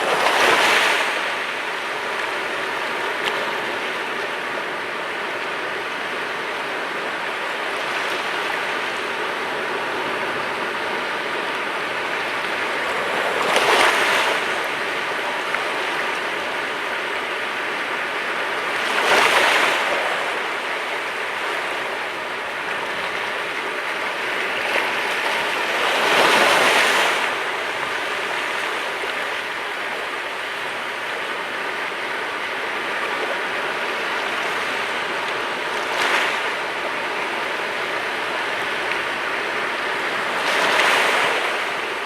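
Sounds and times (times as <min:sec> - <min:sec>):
sea waves breaking on shore: 0:00.0 - 0:42.0.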